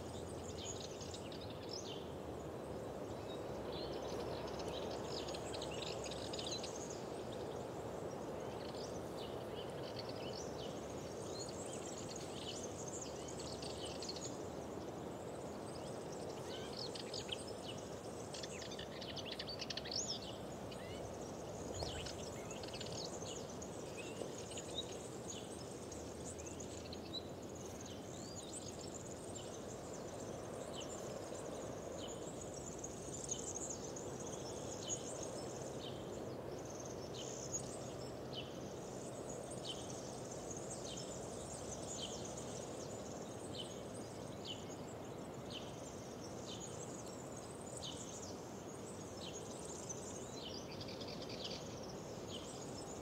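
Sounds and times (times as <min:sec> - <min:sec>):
low background hiss: 0:00.0 - 0:53.0
small birds chirping: 0:00.0 - 0:53.0.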